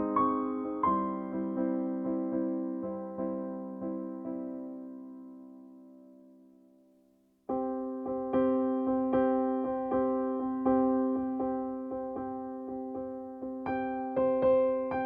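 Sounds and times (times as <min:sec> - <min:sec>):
keyboard music with chords: 0:00.0 - 0:15.0.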